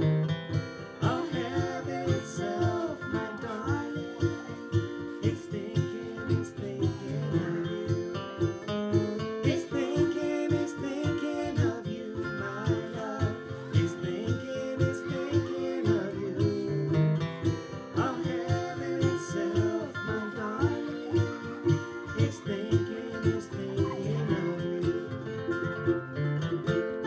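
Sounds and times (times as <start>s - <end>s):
acoustic guitar picking and strumming: 0.0s - 27.0s.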